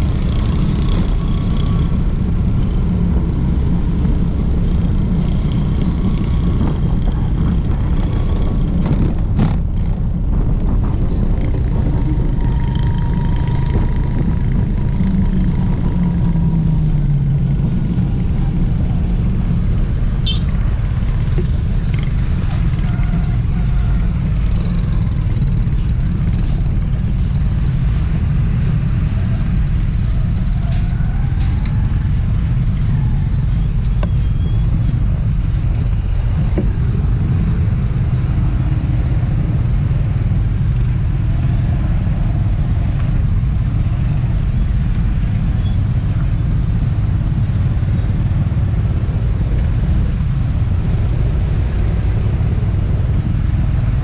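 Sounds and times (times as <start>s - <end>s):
engines rumbling in traffic: 0.0s - 54.0s
wind on microphone: 0.0s - 54.0s.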